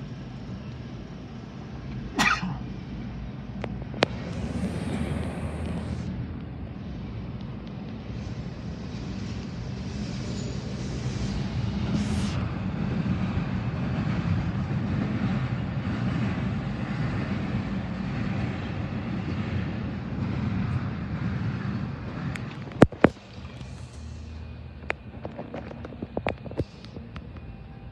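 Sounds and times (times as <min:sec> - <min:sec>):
steel wheels rumbling on rail: 0:00.0 - 0:27.9.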